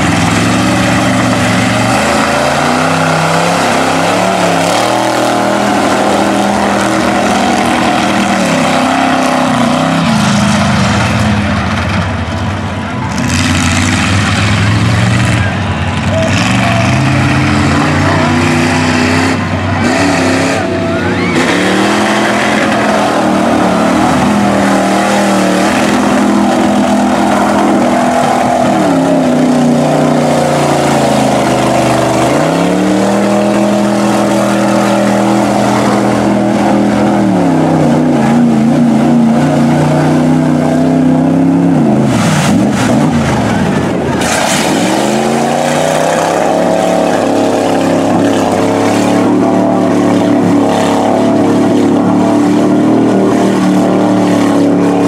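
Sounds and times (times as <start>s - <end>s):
tires churning mud: 0.0s - 55.0s
truck engine at full throttle: 0.0s - 55.0s.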